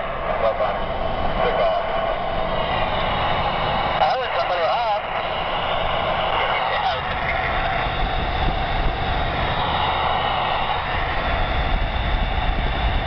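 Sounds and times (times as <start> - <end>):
road and engine noise in vehicle cab: 0.0 - 13.0.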